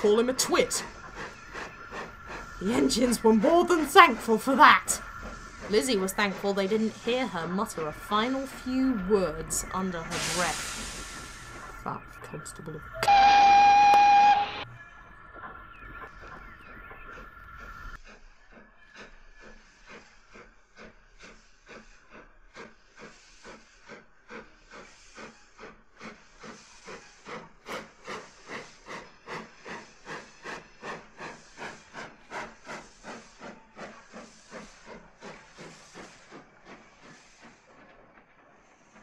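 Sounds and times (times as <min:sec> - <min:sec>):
steam locomotive chuffing: 0:00.0 - 0:14.7, 0:15.7 - 0:39.0.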